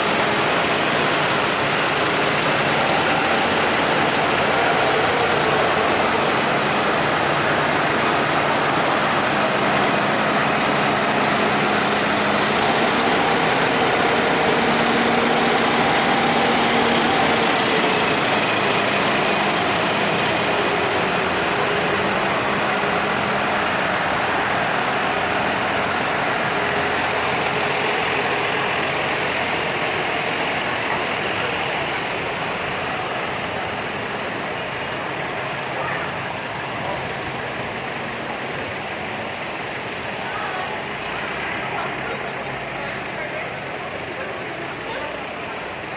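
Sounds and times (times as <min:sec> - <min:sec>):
tractor engines running: 0:00.0 - 0:45.9.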